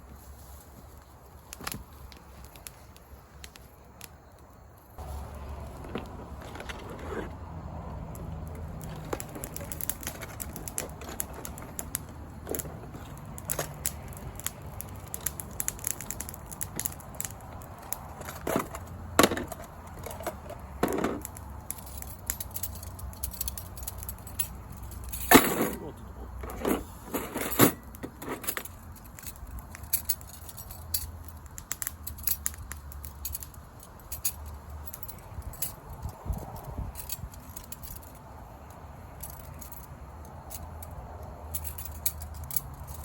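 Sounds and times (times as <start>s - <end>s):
campfire crackling: 0.0s - 43.0s.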